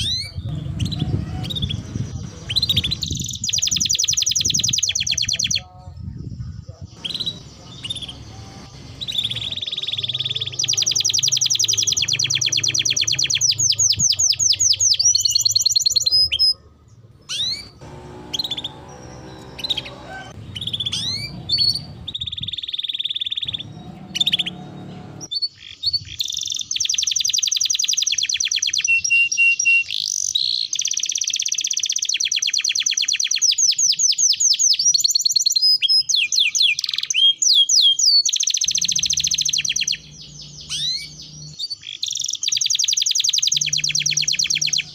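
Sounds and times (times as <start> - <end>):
canary singing trills: 0.0 - 44.9.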